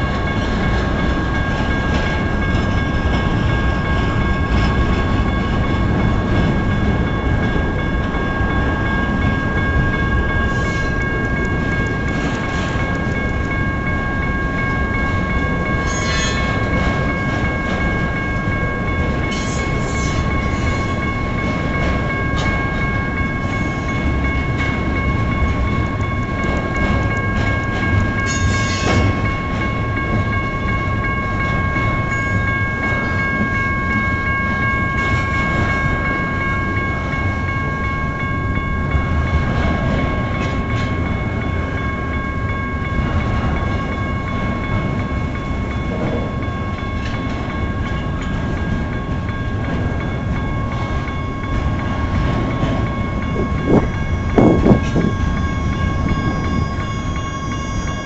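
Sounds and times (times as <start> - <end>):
electronic crossing bell ringing: 0.0 - 58.0
freight train rumbling past: 0.0 - 58.0
train clanks: 0.0 - 58.0.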